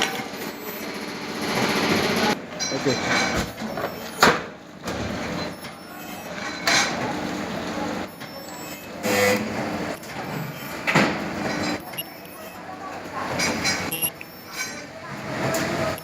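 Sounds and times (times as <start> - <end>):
workshop machinery running: 0.0 - 16.0.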